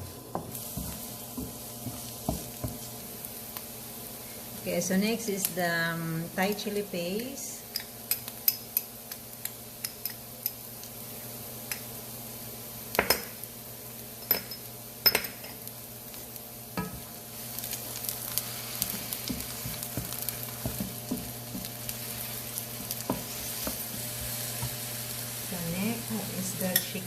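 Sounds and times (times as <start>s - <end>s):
aromatics sizzling in oil: 0.0s - 27.0s.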